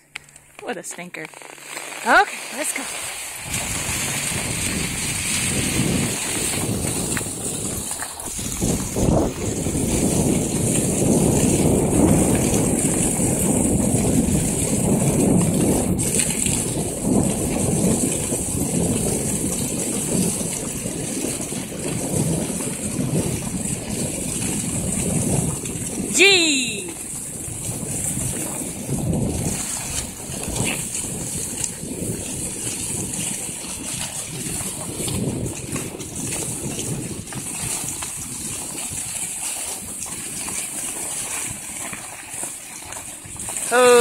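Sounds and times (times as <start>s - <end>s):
skis sliding over packed snow: 0.1s - 44.0s
wind on microphone: 2.0s - 44.0s.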